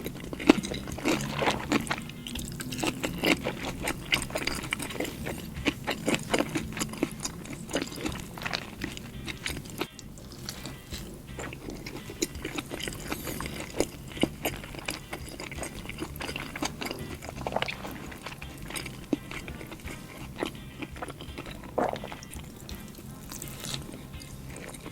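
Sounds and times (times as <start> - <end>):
chewing with wet mouth smacks: 0.0 - 24.9.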